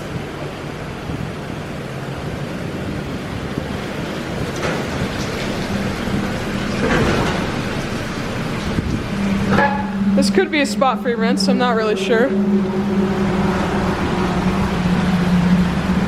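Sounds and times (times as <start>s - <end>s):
car wash spray drumming: 0.0s - 16.0s
low machinery hum: 0.0s - 16.0s.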